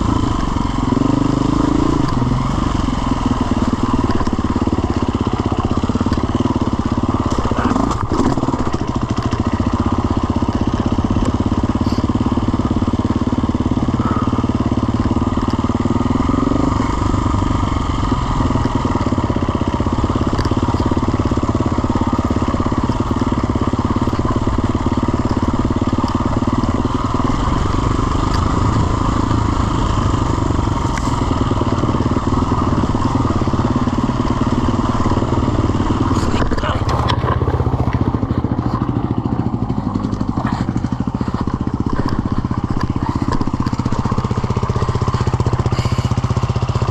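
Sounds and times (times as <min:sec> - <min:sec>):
off-road motorcycle engine: 0:00.0 - 0:46.9.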